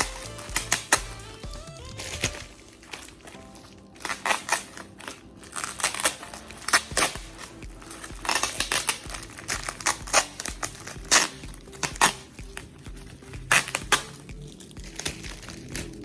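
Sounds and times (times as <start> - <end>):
packaging crinkling and rustling: 1.8 - 16.0.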